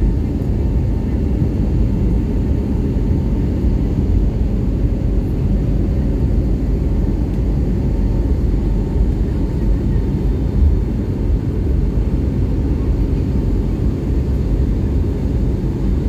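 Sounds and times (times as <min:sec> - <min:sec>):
airplane engines and airflow in cabin: 0:00.0 - 0:16.0.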